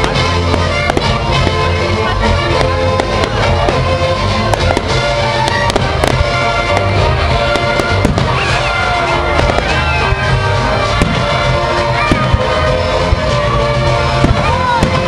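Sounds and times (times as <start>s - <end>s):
fireworks bursting and crackling: 0.0s - 15.0s
music with held notes: 0.0s - 15.0s.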